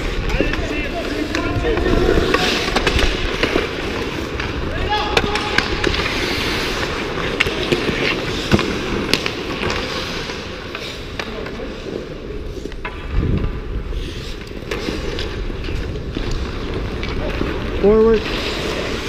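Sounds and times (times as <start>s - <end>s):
skates scraping on ice: 0.0s - 19.0s
sticks and puck clacking: 0.0s - 19.0s.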